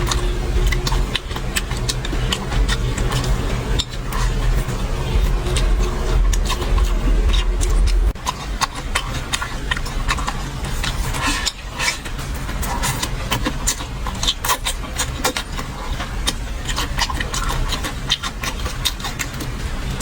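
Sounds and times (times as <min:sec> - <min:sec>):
low hum: 0:00.0 - 0:20.0
person chewing: 0:00.0 - 0:20.0.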